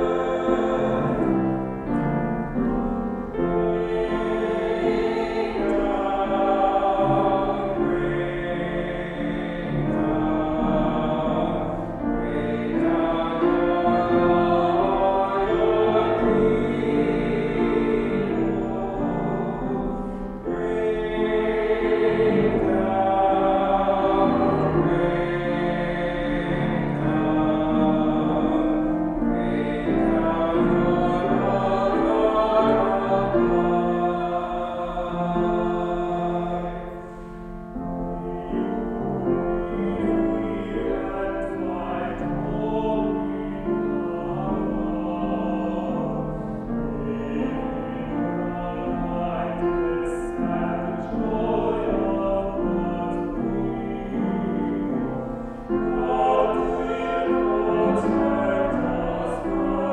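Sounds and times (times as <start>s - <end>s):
three voices singing together: 0.0s - 59.9s.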